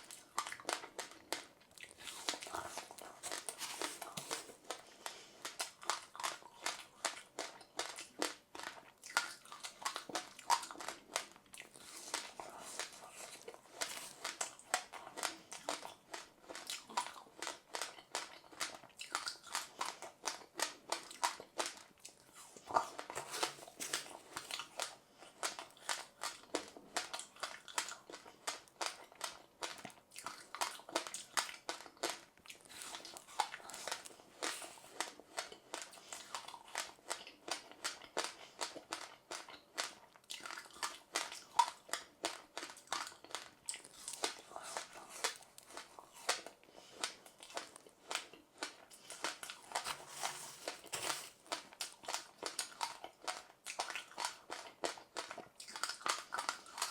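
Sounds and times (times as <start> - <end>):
chewing crunchy seeds: 0.0 - 56.9.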